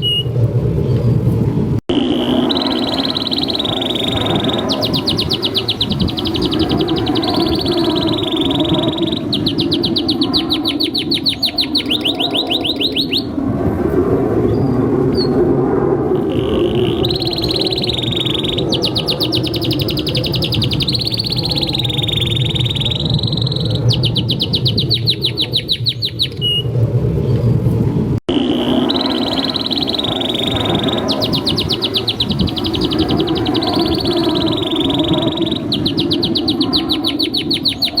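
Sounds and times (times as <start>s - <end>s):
canary singing trills: 2.0s - 13.3s, 16.2s - 26.7s, 28.3s - 38.0s.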